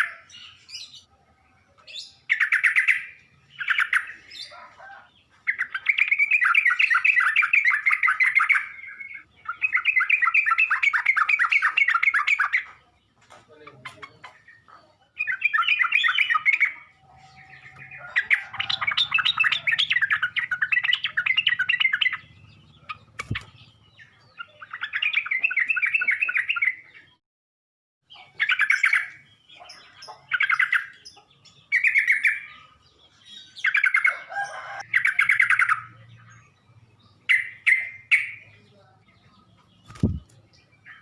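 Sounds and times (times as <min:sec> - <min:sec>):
bulbul chattering song: 0:05.4 - 0:13.0, 0:13.6 - 0:27.2, 0:28.0 - 0:41.0.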